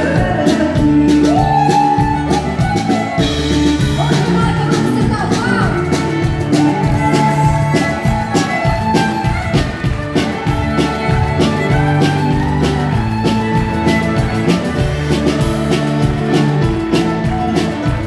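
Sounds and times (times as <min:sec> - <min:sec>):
bass and drums beat: 0:00.0 - 0:18.0
country band playing: 0:00.0 - 0:18.0
guitar: 0:00.0 - 0:18.0.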